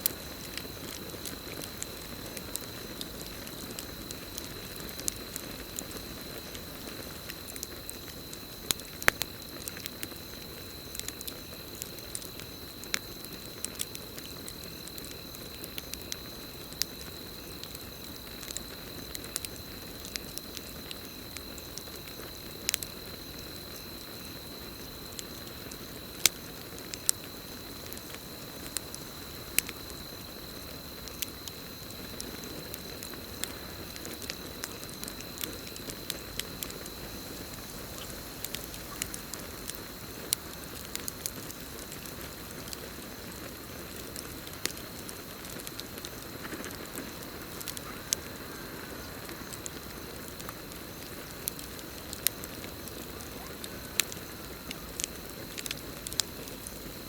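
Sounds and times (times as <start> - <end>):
campfire crackling: 0.0 - 57.0
crickets trilling: 0.0 - 57.0.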